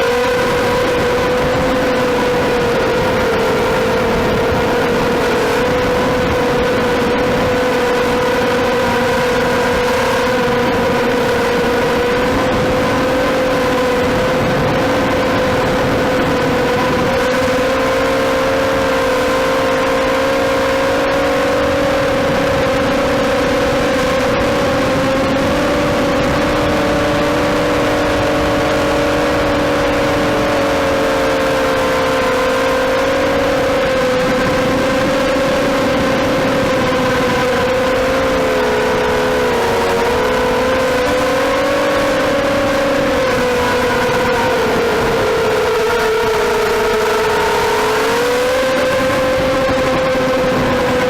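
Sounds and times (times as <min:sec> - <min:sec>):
drone motors whining: 0:00.0 - 0:51.0
rushing wind noise: 0:00.0 - 0:51.0.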